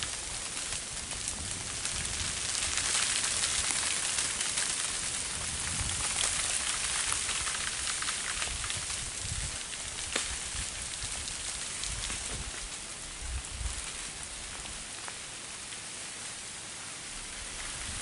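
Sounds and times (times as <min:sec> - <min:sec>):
freezing rain ticking on branches: 0:00.0 - 0:18.0.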